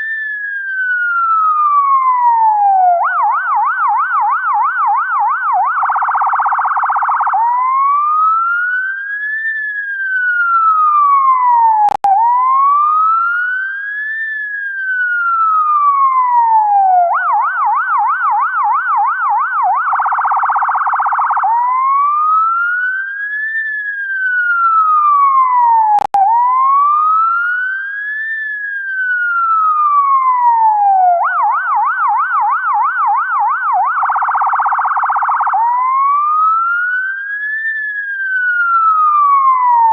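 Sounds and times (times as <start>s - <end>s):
ambulance siren wailing and yelping: 0.0s - 39.9s.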